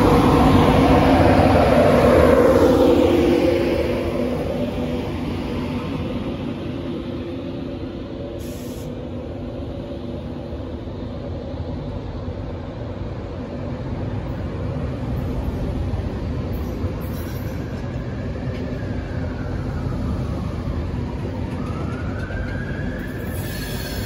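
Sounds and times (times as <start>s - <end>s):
train coaches rumbling past: 0.0s - 24.0s.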